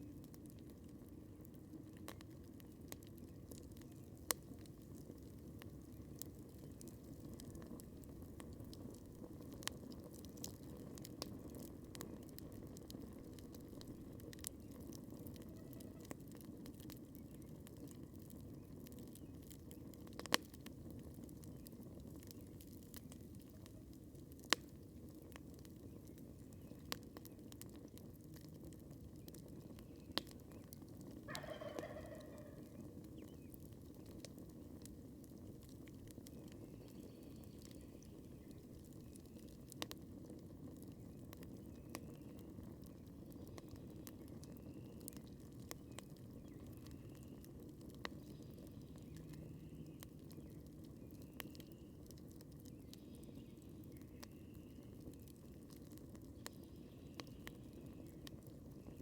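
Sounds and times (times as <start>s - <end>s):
low rush of burning fire: 0.0s - 31.3s, 32.2s - 59.0s
campfire crackling: 0.0s - 59.0s.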